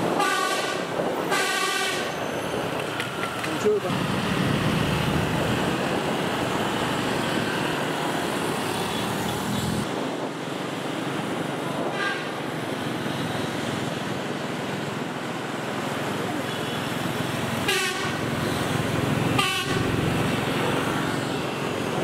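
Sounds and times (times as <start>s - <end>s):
road traffic noise: 0.0s - 22.0s
street train rumbling: 0.0s - 22.0s.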